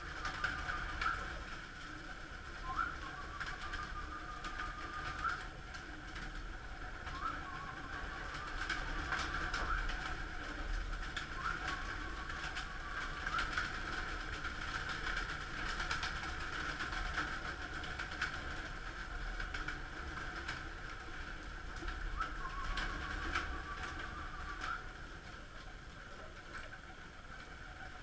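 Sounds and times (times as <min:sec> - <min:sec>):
pigeon wings flapping: 0:00.0 - 0:28.0
pigeons cooing: 0:00.0 - 0:28.0.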